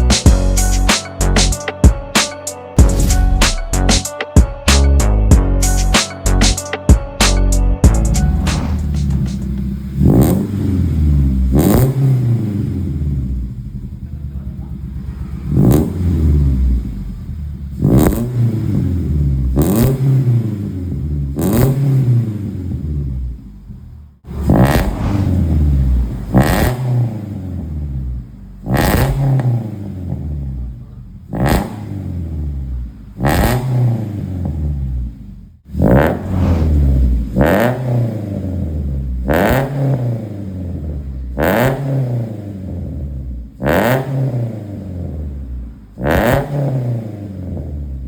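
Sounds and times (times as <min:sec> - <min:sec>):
car engine revving in blips: 0:07.9 - 0:48.0.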